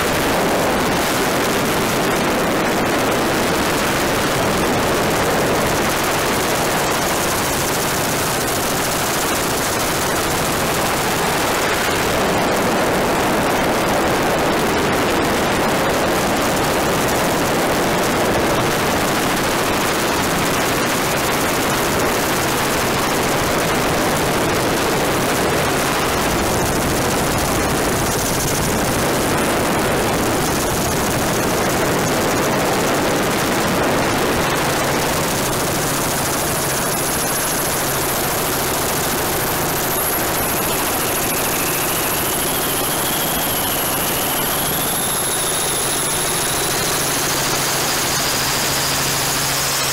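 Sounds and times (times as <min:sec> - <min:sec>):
helicopter rotor and turbine: 0:00.0 - 0:49.9
wind rushing over microphone: 0:00.0 - 0:49.9.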